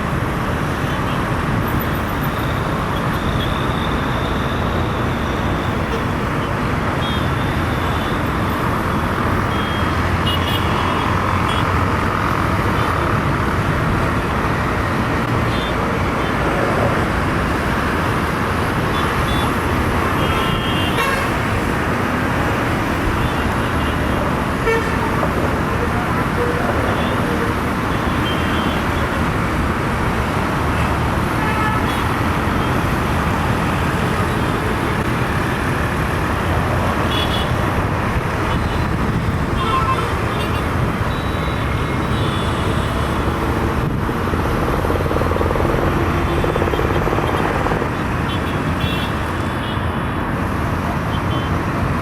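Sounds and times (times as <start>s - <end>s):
steady road traffic: 0.0s - 52.0s.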